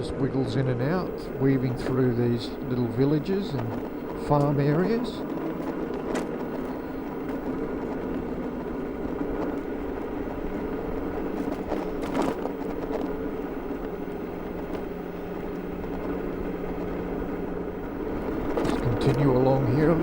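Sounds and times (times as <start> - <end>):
road and wind noise: 0.0 - 20.0
electric motor hum: 0.3 - 20.0.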